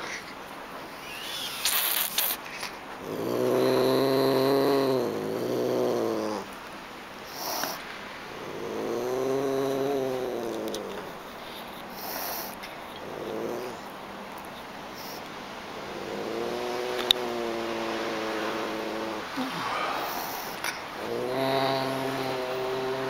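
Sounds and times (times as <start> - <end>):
kitten growling: 0.9 - 6.6, 7.3 - 14.0, 14.9 - 23.0.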